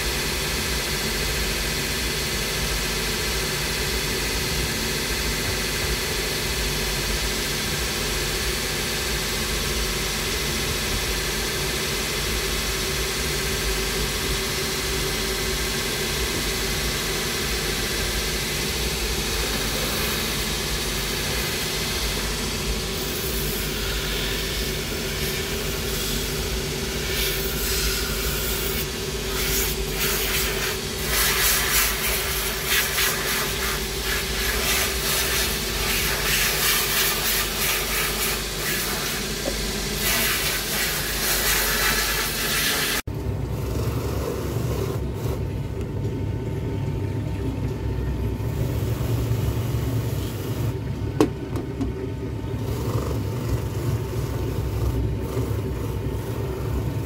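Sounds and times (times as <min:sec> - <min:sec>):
workshop machine humming: 0:00.0 - 0:57.0.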